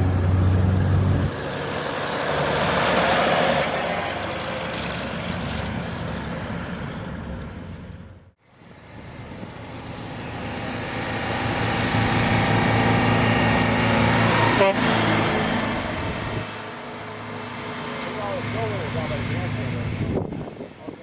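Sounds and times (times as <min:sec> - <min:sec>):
truck engine running: 0:00.0 - 0:20.6.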